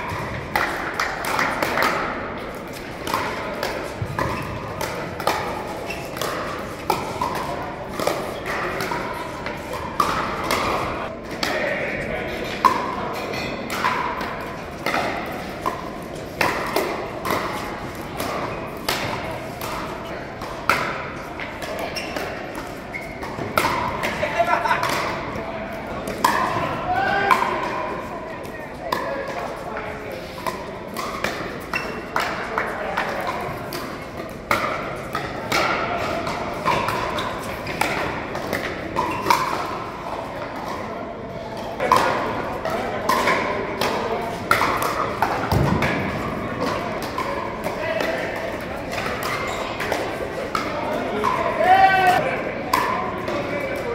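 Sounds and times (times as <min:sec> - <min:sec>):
paddles hitting plastic ball: 0:00.0 - 0:11.6, 0:13.7 - 0:27.8, 0:30.4 - 0:40.8, 0:41.8 - 0:53.9.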